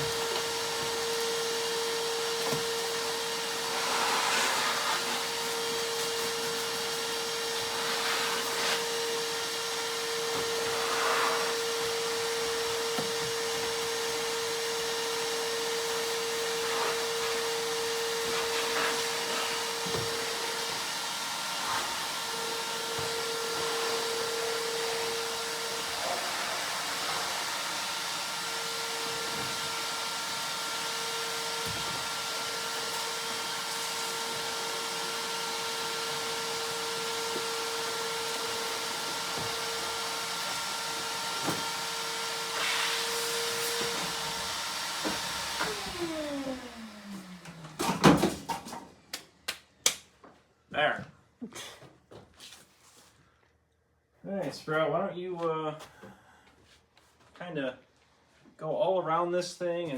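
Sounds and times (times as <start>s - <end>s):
shop vacuum motor whine: 0.0s - 48.4s.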